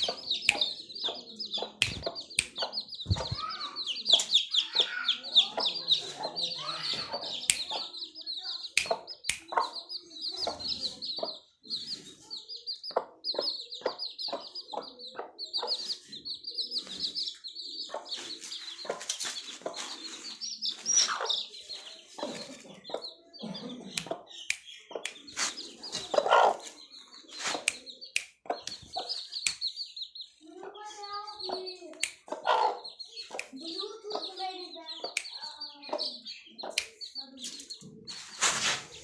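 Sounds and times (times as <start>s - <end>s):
hen clucking: 0.0s - 11.9s, 12.5s - 37.0s
chicks peeping: 0.0s - 39.0s.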